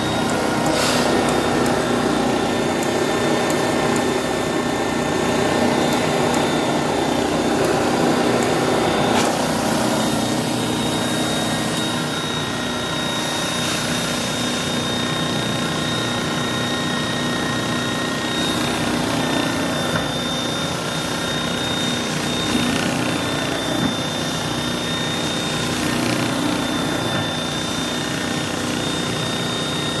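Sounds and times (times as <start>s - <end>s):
carpet extractor motor drone: 0.0s - 30.0s.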